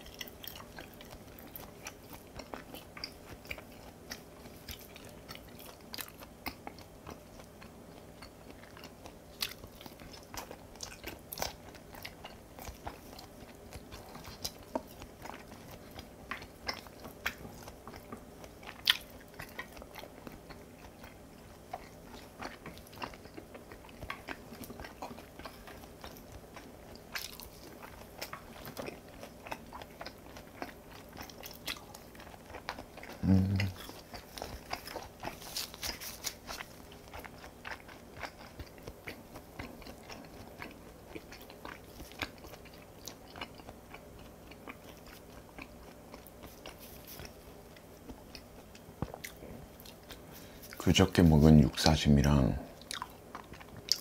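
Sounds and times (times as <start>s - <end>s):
close chewing with crunches: 0.0s - 54.0s.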